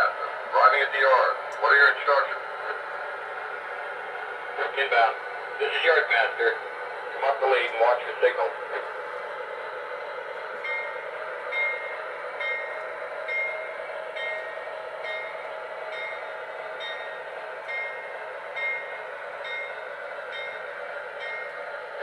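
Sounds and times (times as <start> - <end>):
model diesel locomotive running: 0.0 - 22.0.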